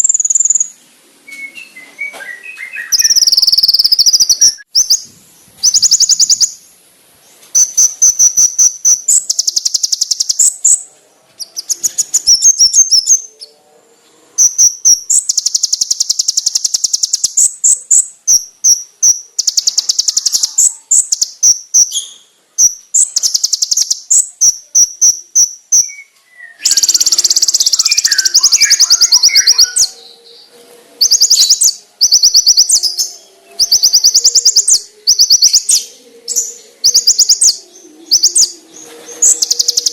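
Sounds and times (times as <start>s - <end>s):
bird trilling and chirping: 0.0s - 6.7s, 7.5s - 13.7s, 14.4s - 39.9s
soft low bird twittering: 0.0s - 6.7s, 7.3s - 39.9s.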